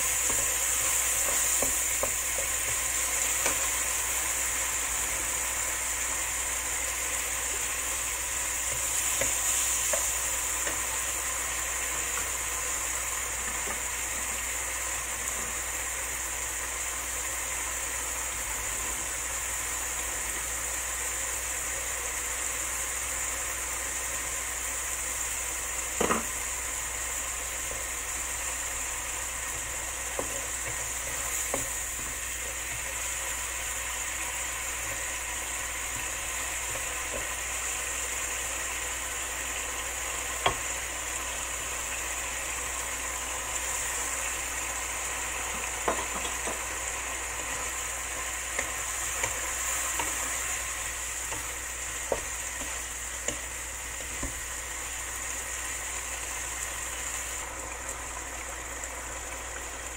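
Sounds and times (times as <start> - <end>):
eggplant sizzling in a wok: 0.0 - 59.9.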